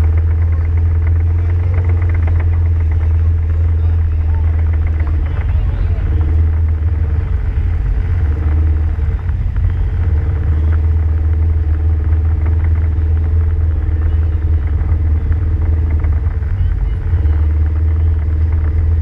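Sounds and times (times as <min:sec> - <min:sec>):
vehicle engine running low: 0:00.0 - 0:19.0.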